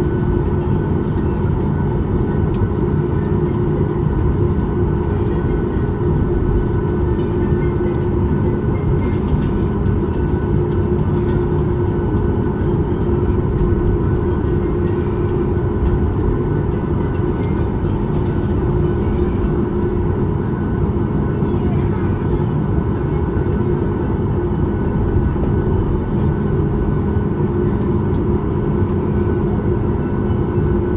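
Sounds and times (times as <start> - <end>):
aircraft cabin air conditioning: 0.0 - 30.9.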